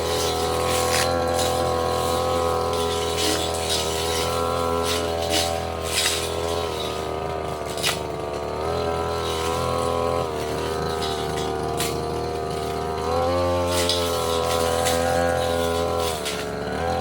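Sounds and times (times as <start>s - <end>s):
brush cutter engine running: 0.0s - 17.0s
blade clicking against stems: 0.1s - 17.0s.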